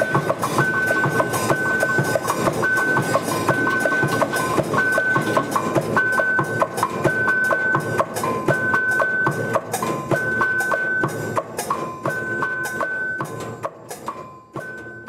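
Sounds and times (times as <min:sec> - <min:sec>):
mechanical percussion machine: 0:00.0 - 0:15.0.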